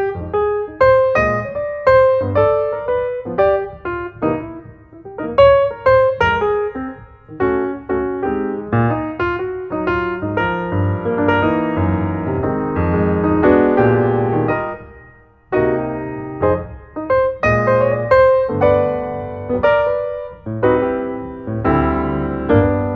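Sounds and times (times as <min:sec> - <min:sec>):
slow piano piece: 0:00.0 - 0:22.9.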